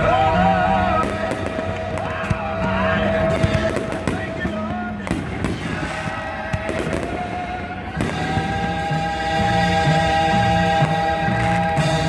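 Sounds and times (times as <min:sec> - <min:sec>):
music with singing from loudspeaker: 0:00.0 - 0:12.0.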